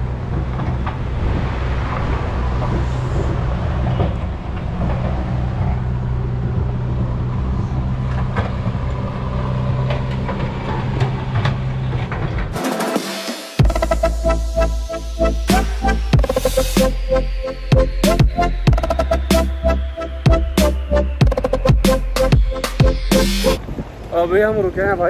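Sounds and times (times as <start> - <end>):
vehicle engine droning: 0.0 - 12.6, 13.6 - 25.0
road noise: 0.0 - 25.0.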